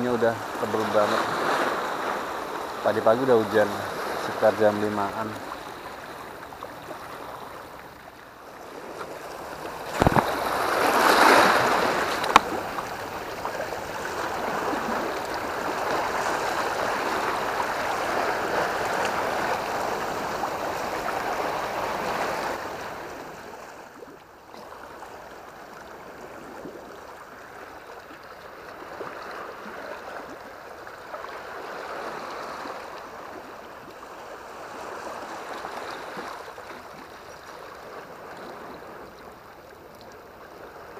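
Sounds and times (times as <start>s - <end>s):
waves splashing on rocky shore: 0.0s - 24.0s, 28.5s - 39.6s.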